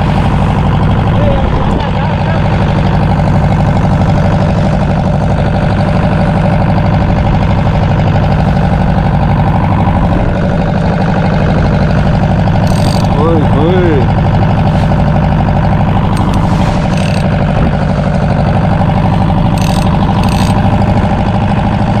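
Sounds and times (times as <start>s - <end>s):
boat diesel engine running: 0.0s - 22.0s.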